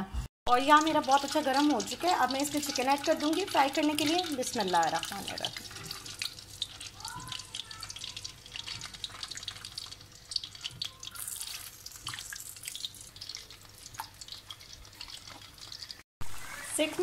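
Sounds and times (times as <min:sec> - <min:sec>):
chicken sizzling in hot oil: 0:00.5 - 0:17.0.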